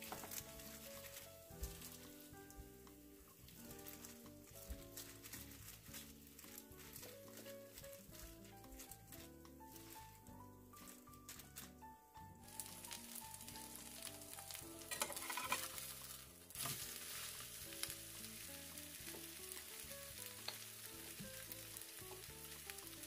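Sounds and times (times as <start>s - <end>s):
batter sizzling in hot oil: 0.0s - 23.0s
soft background music: 0.0s - 23.0s.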